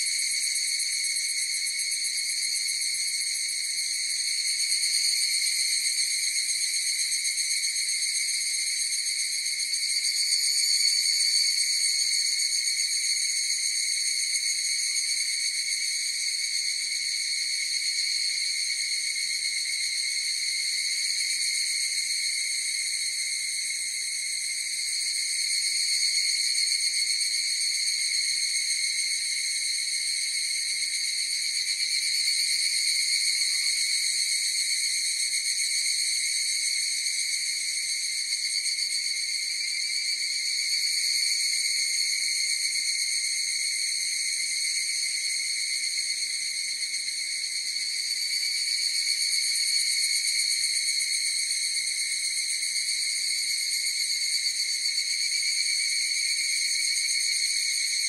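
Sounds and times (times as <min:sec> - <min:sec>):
cicadas trilling: 0:00.0 - 0:58.0.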